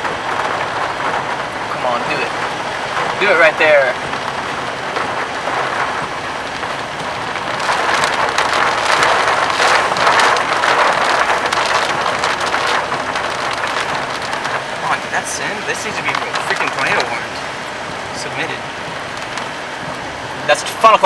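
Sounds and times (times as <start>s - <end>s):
heavy rain on a vehicle: 0.0s - 21.0s.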